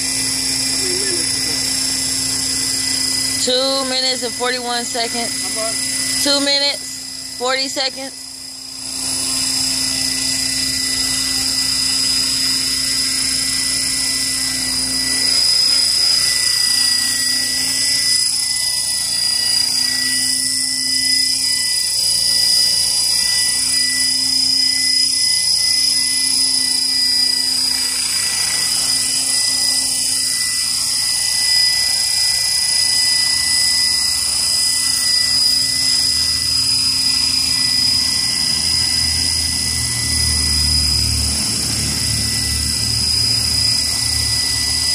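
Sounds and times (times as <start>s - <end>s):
model helicopter hovering: 0.0s - 44.9s.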